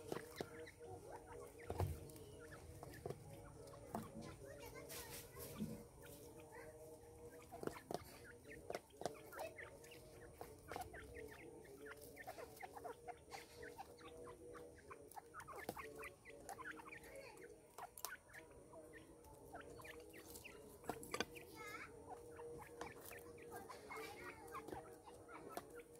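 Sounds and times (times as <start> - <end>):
birds chirping and clucking: 0.0 - 25.9.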